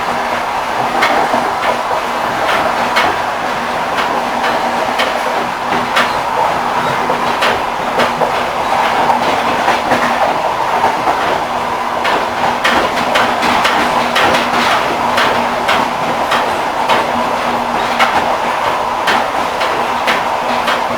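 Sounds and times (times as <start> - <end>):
moving train running hum: 0.0 - 20.9
train wheels clickety-clack: 0.0 - 20.9.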